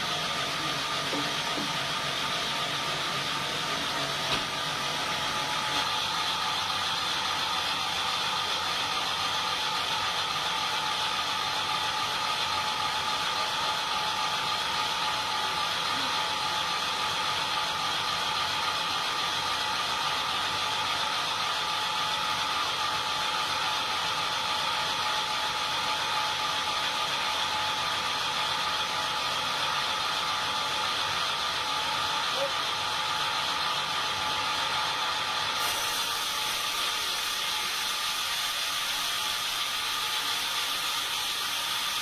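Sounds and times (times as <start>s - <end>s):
sawmill machinery whine: 0.0s - 42.0s.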